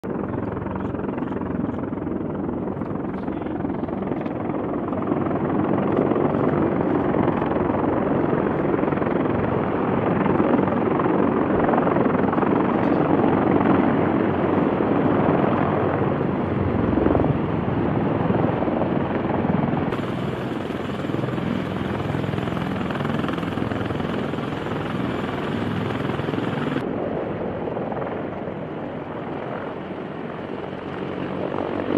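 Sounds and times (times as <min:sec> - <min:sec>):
helicopter rotor and engines: 0:00.0 - 0:31.9.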